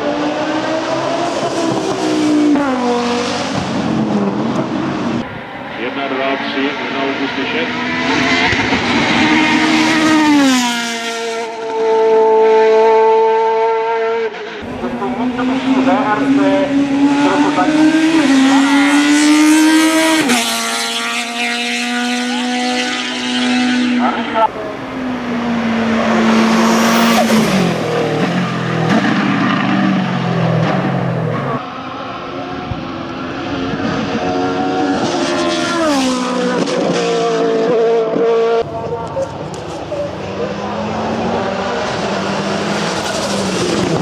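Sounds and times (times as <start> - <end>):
racing car engine passing: 0.0 - 44.0.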